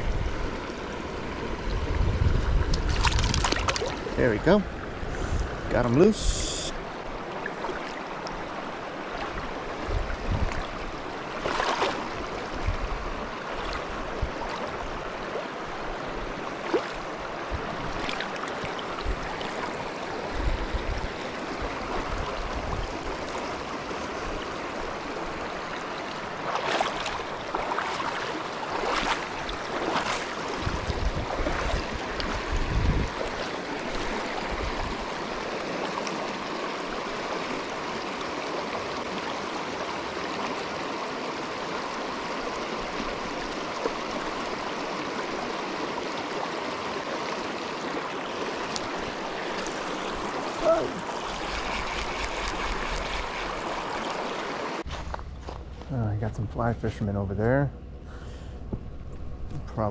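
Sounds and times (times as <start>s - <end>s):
creek water rushing: 0.0s - 54.9s.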